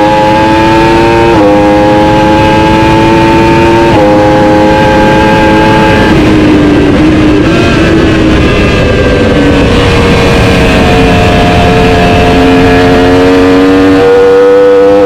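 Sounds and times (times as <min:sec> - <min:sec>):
superbike engine at high revs: 0:00.0 - 0:15.0.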